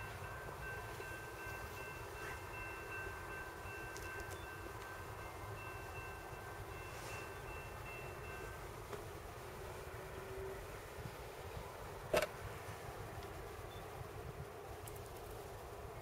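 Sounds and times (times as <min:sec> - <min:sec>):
distant freight train rumble: 0:00.0 - 0:16.0.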